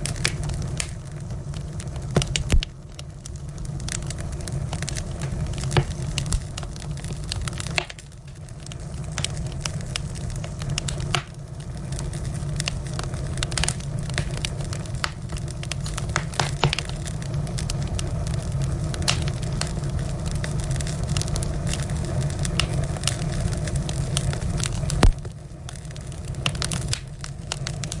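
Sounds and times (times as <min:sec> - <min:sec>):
low rumble of flames: 0:00.0 - 0:28.0
wood fire crackling and popping: 0:00.0 - 0:28.0.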